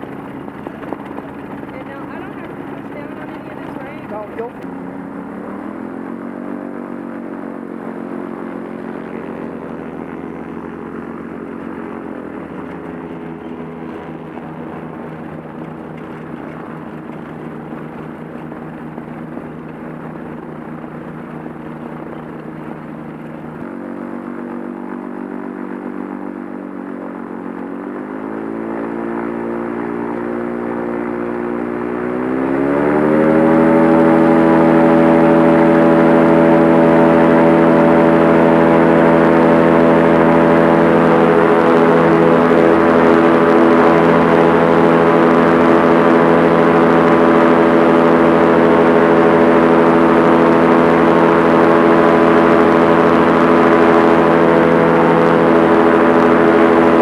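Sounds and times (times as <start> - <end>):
propeller aircraft engine running: 0.0 - 57.0.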